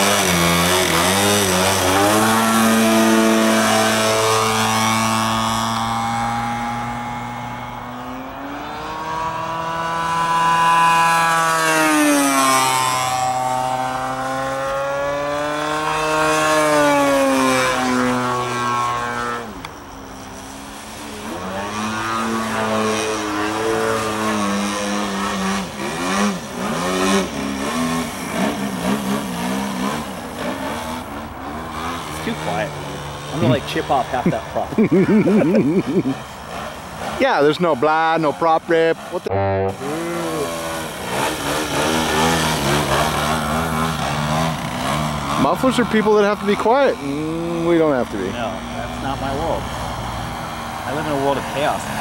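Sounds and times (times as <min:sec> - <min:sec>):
model plane engine in flight: 0:00.0 - 0:52.0.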